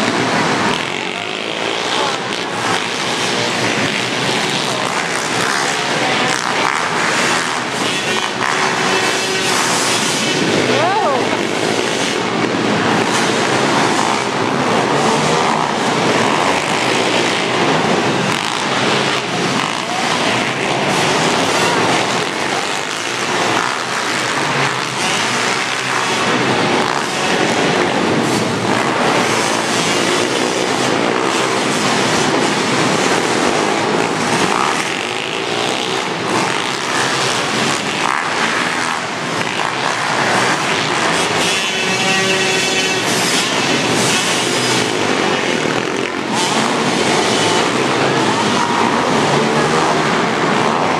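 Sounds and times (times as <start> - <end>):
pit bike engines revving: 0.0 - 50.9.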